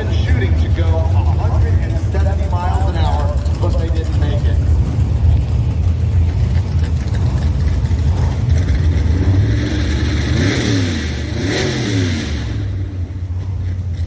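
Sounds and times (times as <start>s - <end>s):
engines revving: 0.0s - 14.0s
low engine rumble: 0.0s - 14.0s.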